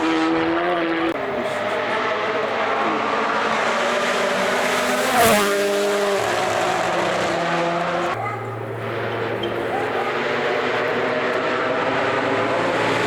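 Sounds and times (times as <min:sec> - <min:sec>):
rally car engine passing by: 0:00.0 - 0:13.0.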